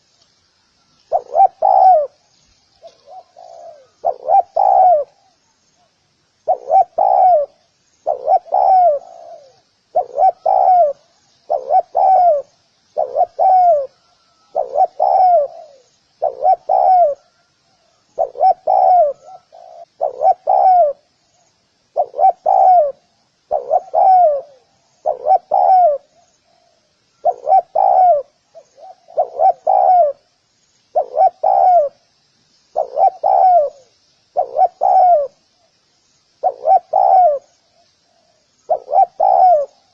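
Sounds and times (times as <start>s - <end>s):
faint high chirping: 0.0s - 39.9s
dove cooing: 1.1s - 2.2s, 2.8s - 21.1s, 21.9s - 30.3s, 30.9s - 32.0s, 32.8s - 35.4s, 36.4s - 39.9s.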